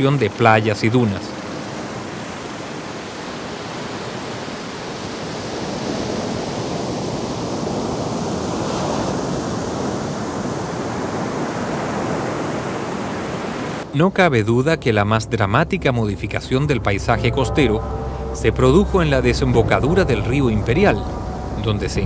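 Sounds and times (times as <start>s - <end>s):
ocean surf rushing: 0.0s - 22.0s.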